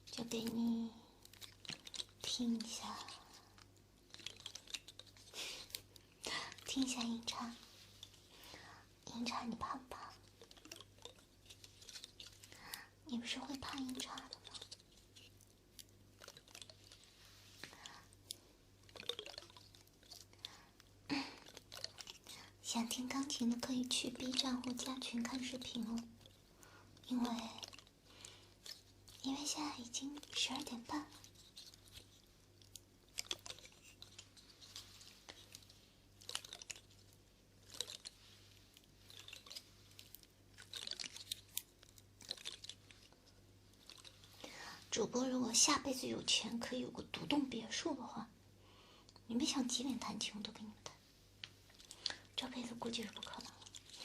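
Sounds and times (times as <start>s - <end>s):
soft handling noises: 0.0s - 46.0s
faint crackles and crunches: 0.0s - 48.2s, 49.3s - 54.0s
low steady hum: 0.0s - 54.0s.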